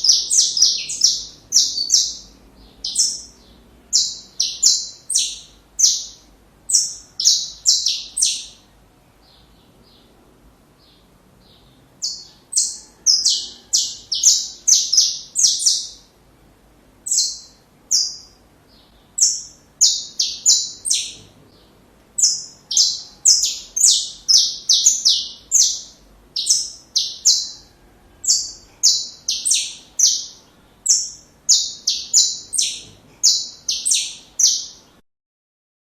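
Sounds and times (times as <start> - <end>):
finch chirping: 0.0 - 10.1, 10.8 - 16.1, 17.0 - 35.0.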